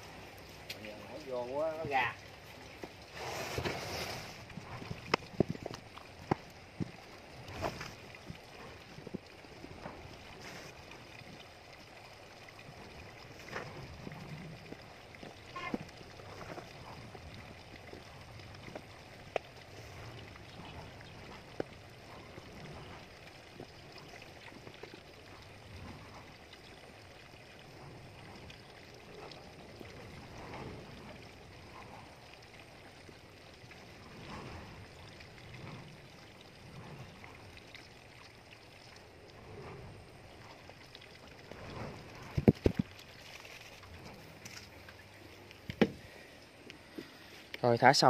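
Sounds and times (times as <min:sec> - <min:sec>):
light rain hissing: 0:00.0 - 0:48.0.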